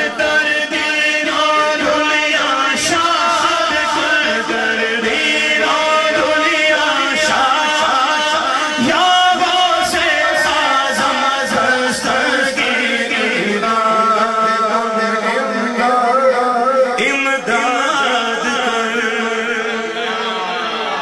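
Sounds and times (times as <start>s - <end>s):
men chanting without instruments: 0.0s - 21.0s.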